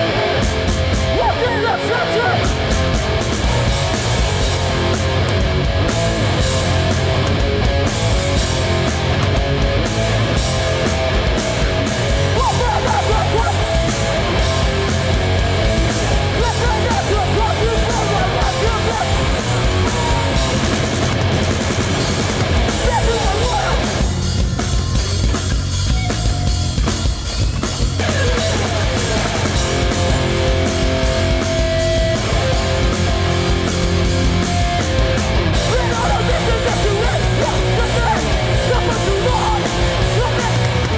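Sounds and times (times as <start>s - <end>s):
punk band playing live: 0.0s - 40.9s.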